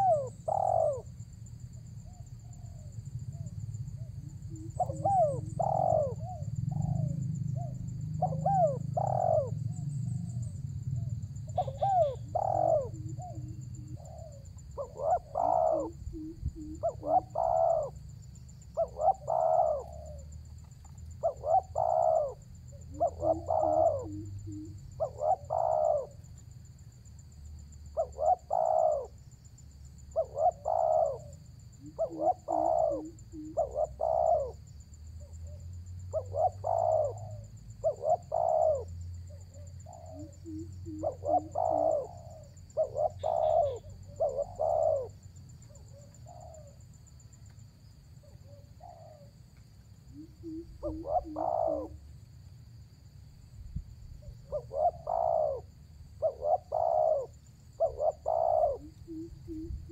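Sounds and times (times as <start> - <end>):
dove cooing: 0.0 - 26.4, 27.9 - 29.3, 30.0 - 46.9, 48.2 - 49.4, 50.0 - 52.2, 54.2 - 59.9.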